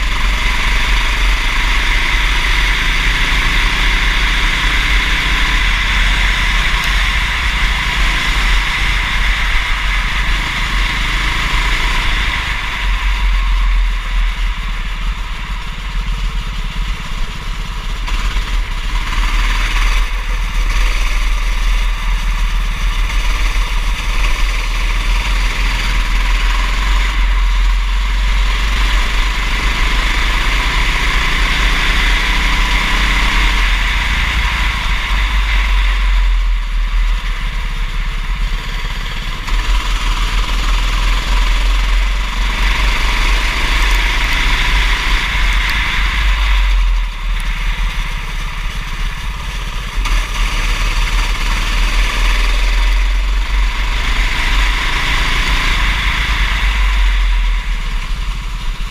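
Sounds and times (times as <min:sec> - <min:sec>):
racing kart engine: 0:00.0 - 0:58.9.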